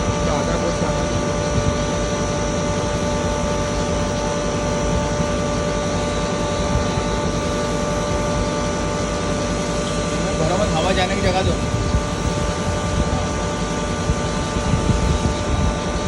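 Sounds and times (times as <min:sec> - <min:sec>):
high mechanical whine: 0:00.0 - 0:16.0.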